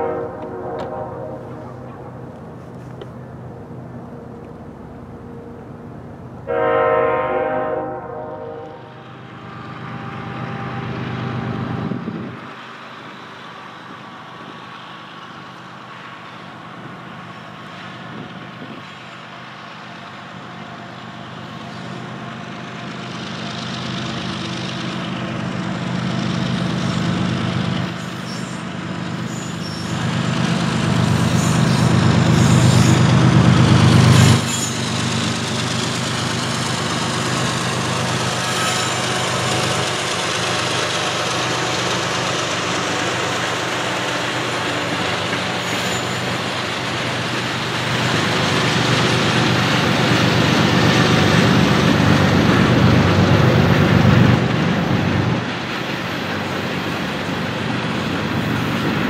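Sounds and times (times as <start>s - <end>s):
diesel locomotive engine: 0.0s - 59.0s
freight cars rolling by: 9.0s - 59.0s.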